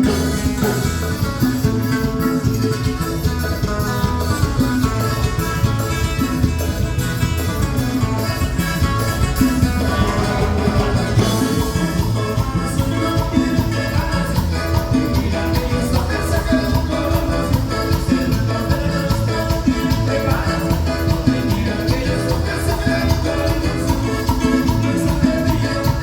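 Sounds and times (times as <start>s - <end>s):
live latin dance music: 0.0s - 26.0s.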